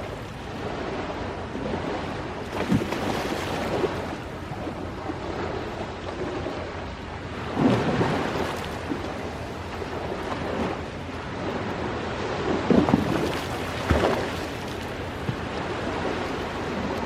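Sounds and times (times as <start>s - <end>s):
ocean waves washing in: 0.0s - 17.0s.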